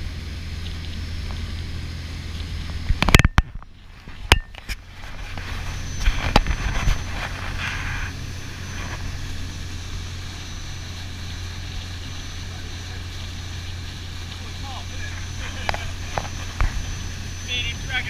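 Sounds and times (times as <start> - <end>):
boat engine droning: 0.0 - 18.0
wake and wind rushing: 0.0 - 18.0.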